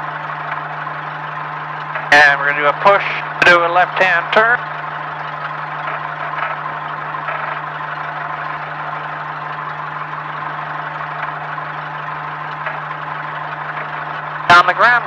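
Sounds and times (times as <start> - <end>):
light aircraft engine droning: 0.0 - 15.0.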